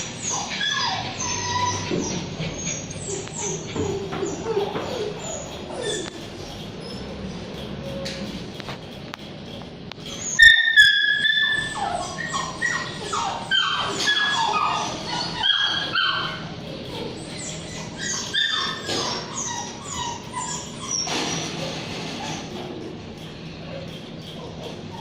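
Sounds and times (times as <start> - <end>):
dog whining and yipping: 0.0 - 7.2, 10.0 - 22.6, 23.7 - 25.0.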